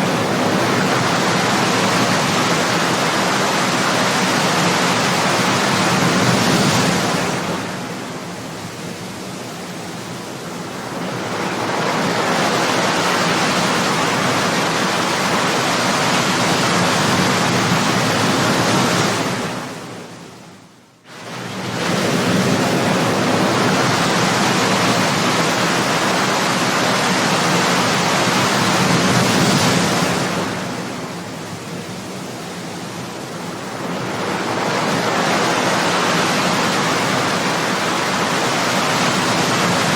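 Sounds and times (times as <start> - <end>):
ocean waves breaking: 0.0 - 20.2, 21.1 - 39.9.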